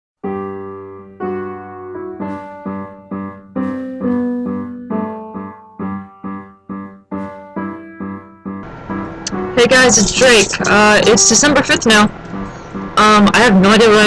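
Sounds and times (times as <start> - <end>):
piano-like keyboard music: 0.2 - 14.0.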